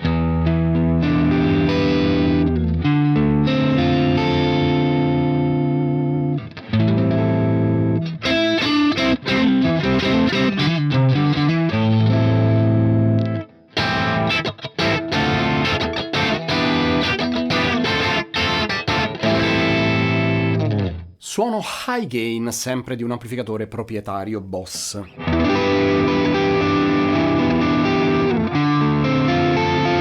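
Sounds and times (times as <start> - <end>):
electric guitar with driven tone: 0.0 - 21.0, 25.1 - 30.0.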